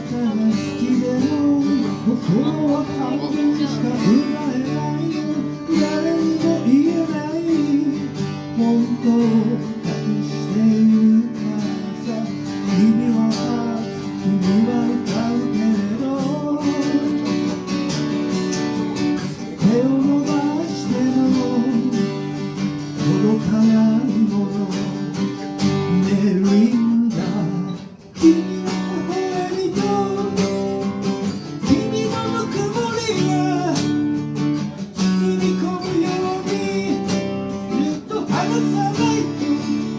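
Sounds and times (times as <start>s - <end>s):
acoustic guitar strumming with melody: 0.0s - 39.9s.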